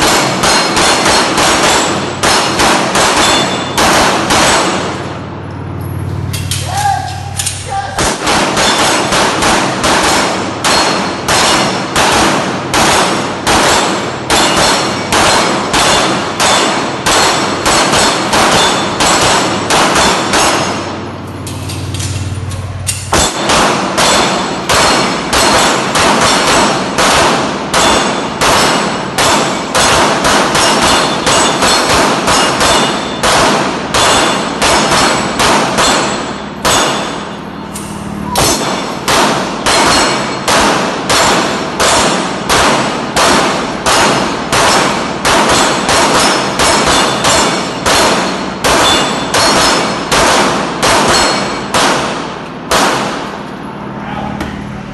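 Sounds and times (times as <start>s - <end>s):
bullets clanging off steel plates: 0.0s - 4.6s, 6.1s - 12.2s, 12.8s - 33.4s, 34.0s - 42.6s, 43.9s - 51.9s
rapid gunfire: 0.0s - 5.2s, 7.9s - 21.1s, 23.1s - 37.4s, 38.4s - 53.4s.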